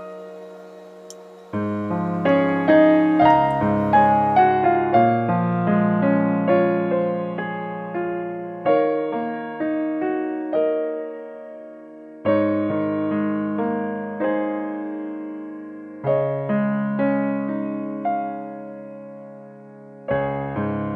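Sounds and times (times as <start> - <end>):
slow piano music: 0.0 - 20.9.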